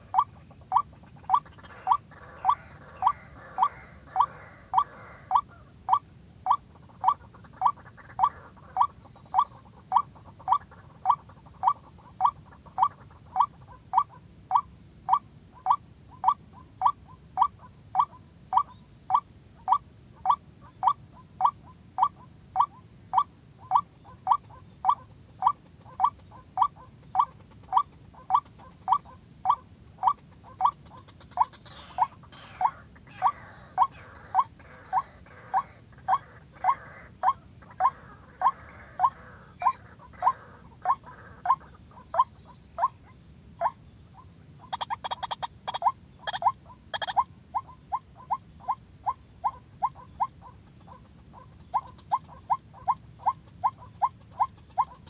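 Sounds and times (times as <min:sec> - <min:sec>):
waterhen calling: 0:00.0 - 0:43.0, 0:43.6 - 0:55.0.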